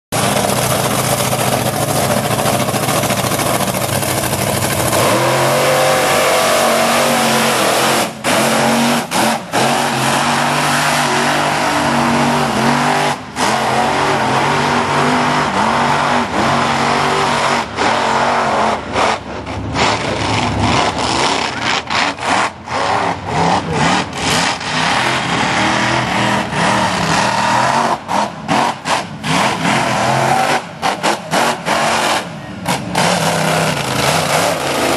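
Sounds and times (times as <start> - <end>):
truck engine revving hard: 0.1 - 34.9.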